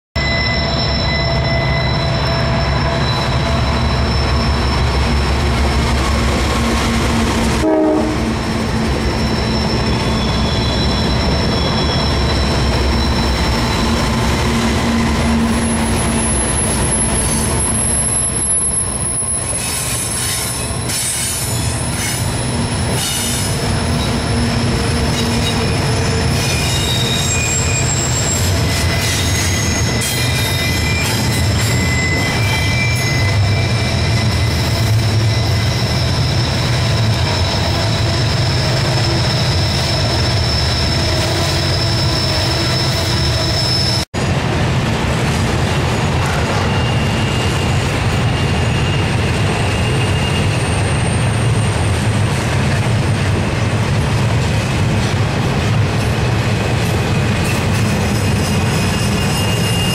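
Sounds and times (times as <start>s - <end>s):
wheel flange squeal: 0.2s - 6.2s, 8.5s - 44.1s, 46.2s - 52.0s, 57.0s - 59.9s
wheels rumbling on rails: 0.6s - 59.9s
diesel locomotive rumble: 1.9s - 59.8s.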